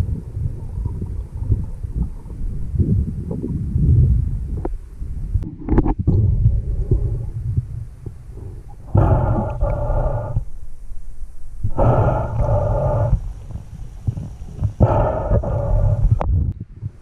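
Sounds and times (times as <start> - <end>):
low rumble of water: 0.0 - 17.0.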